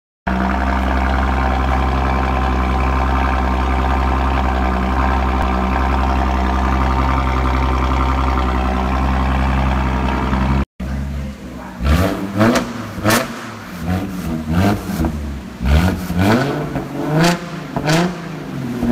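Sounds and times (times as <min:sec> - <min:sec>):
car engine idling: 0:00.3 - 0:18.9.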